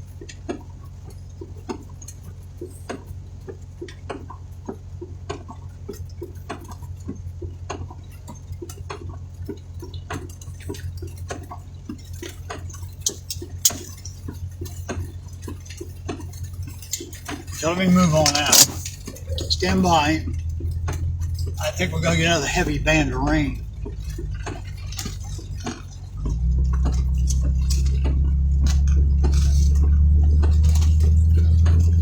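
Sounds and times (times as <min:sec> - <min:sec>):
idling engine hum: 0:00.0 - 0:32.0
raindrops tapping on vehicle roof: 0:00.0 - 0:32.0.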